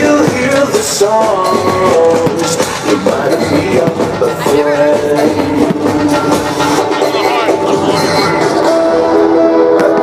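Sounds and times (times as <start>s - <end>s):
loud music from sound system: 0.0s - 10.0s.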